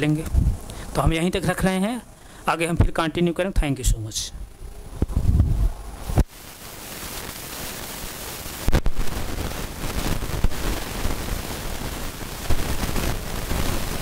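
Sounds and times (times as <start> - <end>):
static hiss: 0.0 - 14.0.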